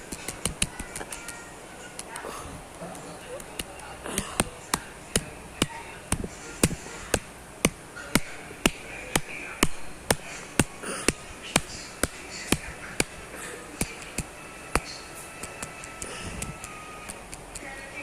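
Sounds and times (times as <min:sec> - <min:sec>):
sharp evenly spaced clicks: 0:00.0 - 0:01.4, 0:03.4 - 0:17.8
faint background hiss: 0:00.0 - 0:18.0.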